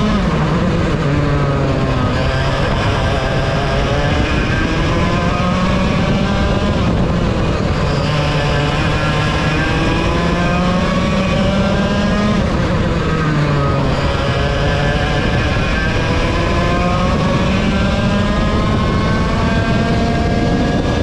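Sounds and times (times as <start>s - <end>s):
kart engine running hard: 0.0s - 21.0s.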